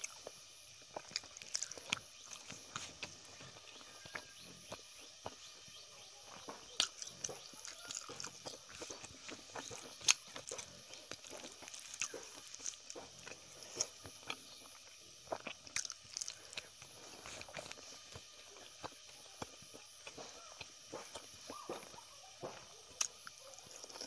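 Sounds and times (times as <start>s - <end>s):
person chewing and smacking lips: 0.0s - 24.0s.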